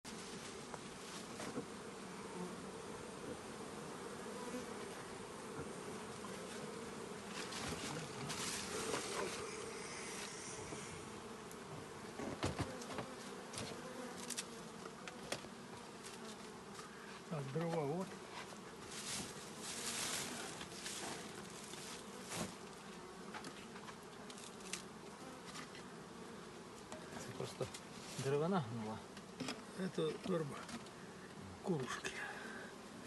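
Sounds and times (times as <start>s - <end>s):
honeybees buzzing: 0.1s - 33.0s.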